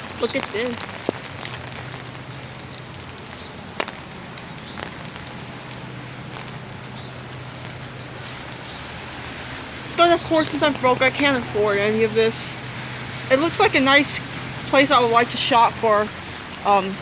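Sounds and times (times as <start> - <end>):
close drip clicks: 0.0 - 17.0
heavy rain falling: 0.0 - 17.0.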